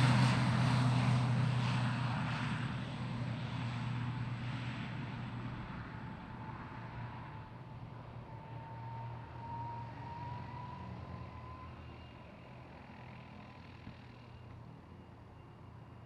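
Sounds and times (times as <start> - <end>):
distant propeller aircraft: 0.0 - 16.0.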